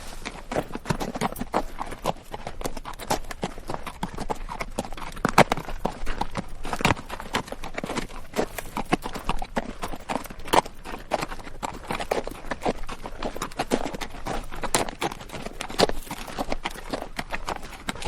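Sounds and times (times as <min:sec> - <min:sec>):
horse hooves clopping on rocky dirt: 0:00.0 - 0:18.0.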